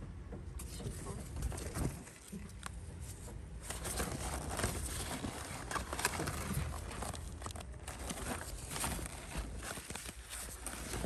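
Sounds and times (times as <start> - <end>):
plant leaves rustling: 0.8 - 11.0.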